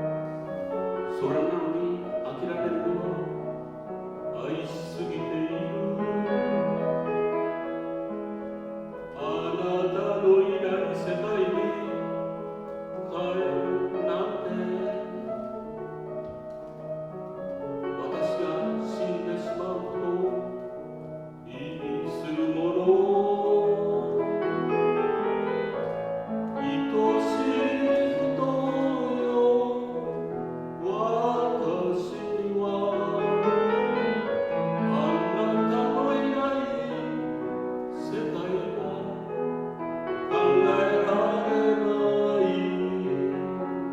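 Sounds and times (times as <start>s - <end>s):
piano chords: 0.0s - 43.9s
man singing: 1.0s - 6.9s, 9.1s - 15.6s, 17.6s - 43.9s.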